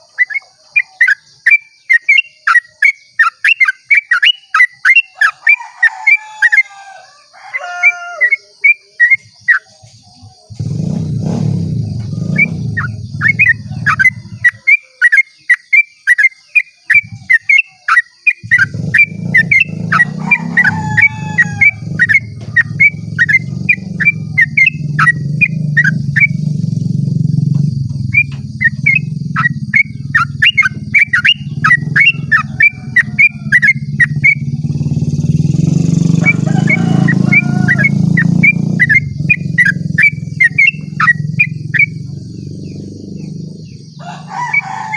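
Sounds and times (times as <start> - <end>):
bird singing rolling song: 0.0 - 44.9.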